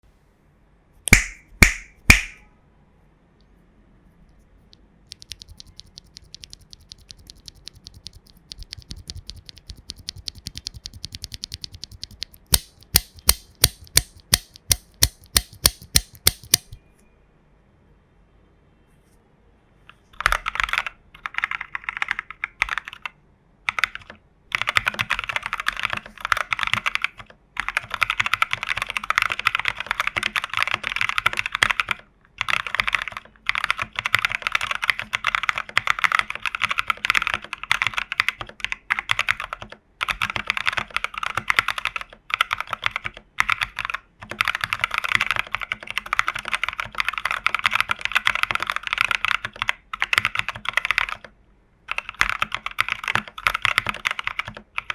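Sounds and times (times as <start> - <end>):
mechanical keyboard typing: 4.7 - 16.8, 20.2 - 51.3, 51.9 - 54.9.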